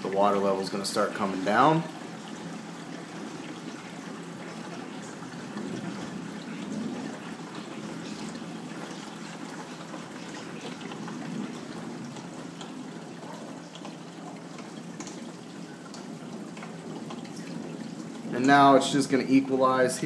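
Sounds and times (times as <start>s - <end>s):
water gurgling down pipes: 0.0s - 20.0s.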